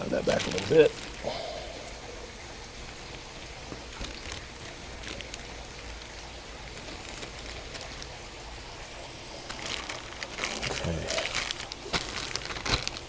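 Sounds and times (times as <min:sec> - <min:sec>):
plastic bag rustling and crinkling: 0:00.0 - 0:01.4, 0:03.1 - 0:13.0
low background rumble: 0:00.0 - 0:13.0.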